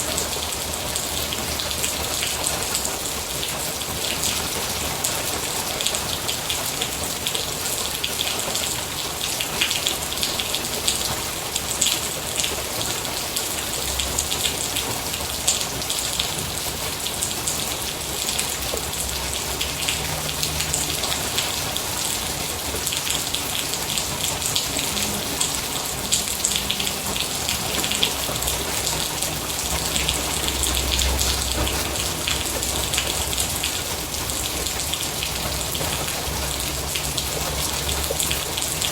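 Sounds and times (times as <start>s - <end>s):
rain drops ticking on a surface: 0.0s - 38.9s.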